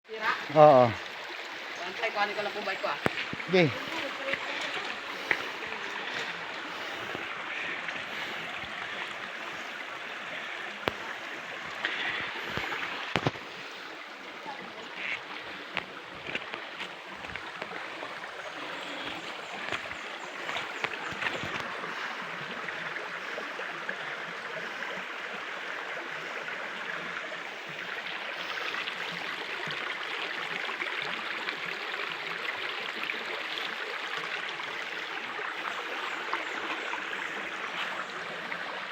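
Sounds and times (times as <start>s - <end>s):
river water running over a ford: 0.1s - 38.9s.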